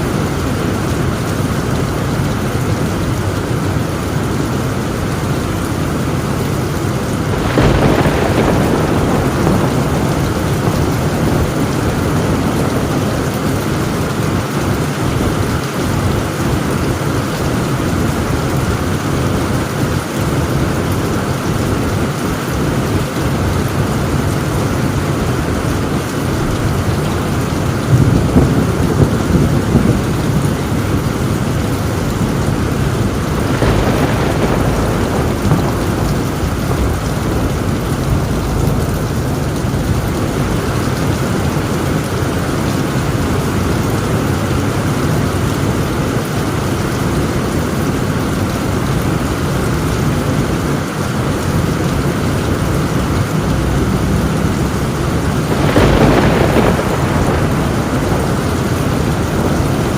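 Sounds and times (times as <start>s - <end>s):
heavy rain on a tin roof: 0.0s - 59.9s
low rumble of thunder: 0.0s - 59.9s.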